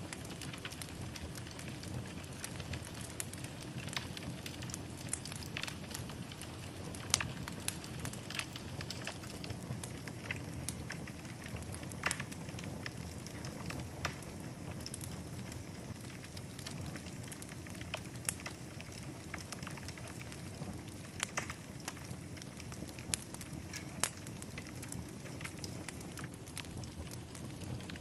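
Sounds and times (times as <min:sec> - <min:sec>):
fire pops: 0:00.0 - 0:28.0
wood fire crackling: 0:00.0 - 0:28.0.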